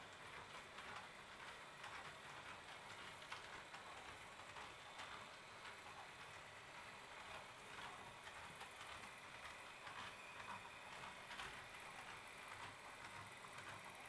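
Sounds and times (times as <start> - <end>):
model train wheels clicking: 0.0 - 14.0.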